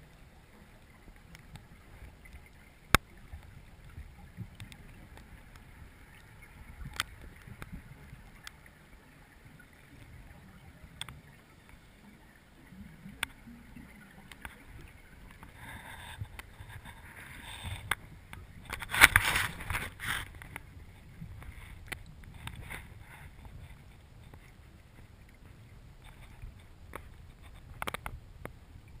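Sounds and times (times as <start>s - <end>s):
rushing water bursts: 0.0s - 27.8s
low underwater rumble: 0.0s - 29.0s
sharp underwater clicks: 0.8s - 11.8s, 12.6s - 24.6s, 25.3s - 28.6s.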